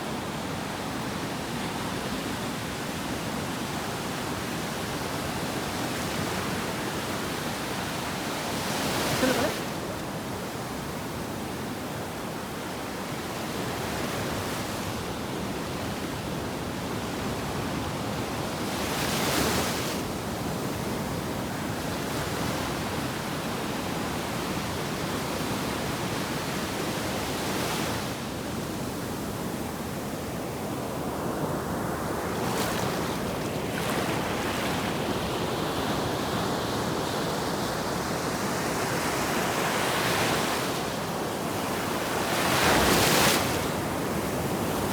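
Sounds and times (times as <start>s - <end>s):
waves breaking on a beach: 0.0s - 44.9s.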